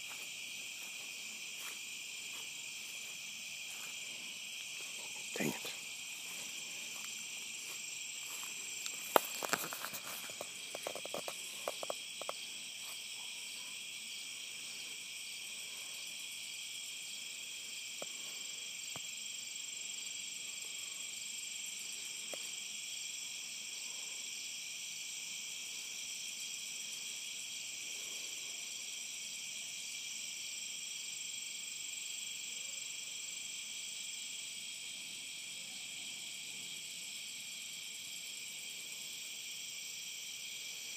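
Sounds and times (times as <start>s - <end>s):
insects calling: 0.0s - 40.9s.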